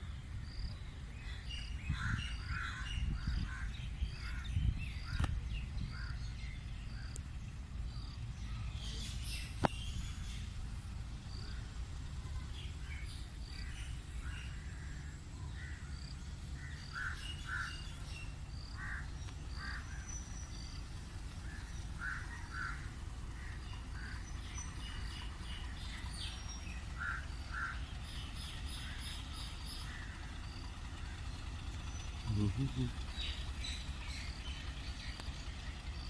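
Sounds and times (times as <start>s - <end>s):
low steady rumble: 0.0s - 36.0s
small birds chirping: 0.0s - 36.0s.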